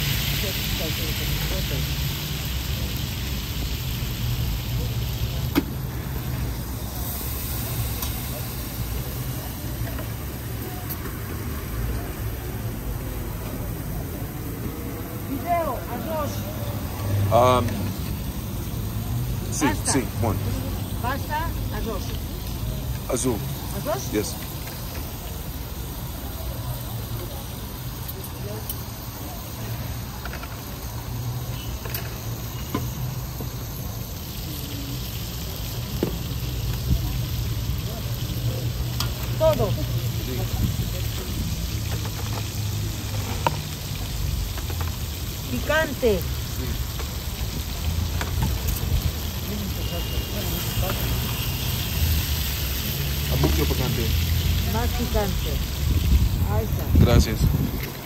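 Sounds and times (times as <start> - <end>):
even hiss: 0.0 - 58.0
food sizzling in oil: 0.0 - 58.0
street traffic rumble: 0.0 - 58.0.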